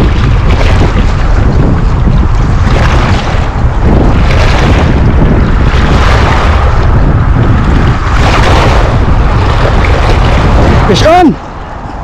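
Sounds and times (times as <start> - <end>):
small waves washing on rocks: 0.0 - 11.4
strong wind buffeting microphone: 0.0 - 12.0.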